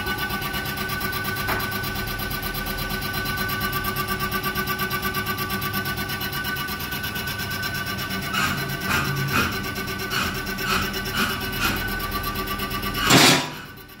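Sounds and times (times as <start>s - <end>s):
pump test bench whine: 0.0s - 14.0s.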